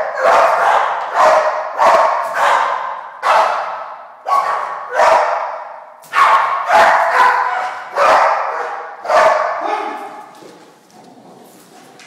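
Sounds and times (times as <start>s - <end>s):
large dog barking with echo: 0.0s - 10.4s.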